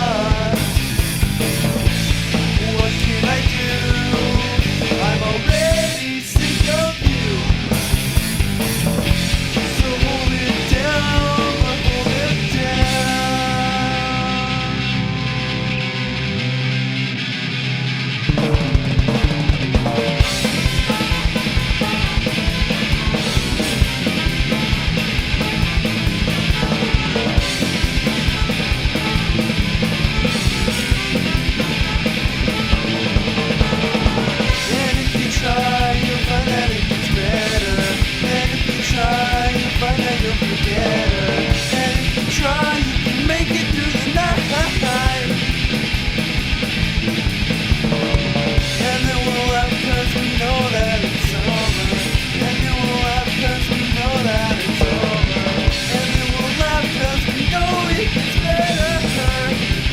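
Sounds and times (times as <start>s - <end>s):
ska punk band playing: 0.0s - 59.9s.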